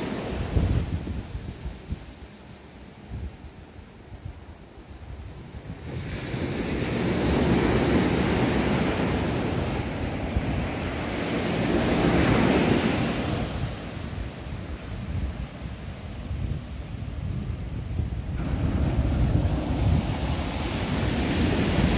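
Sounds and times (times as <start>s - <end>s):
wind buffeting microphone: 0.0s - 2.3s, 3.0s - 21.9s
sea waves breaking on beach: 0.0s - 3.0s, 5.6s - 21.9s.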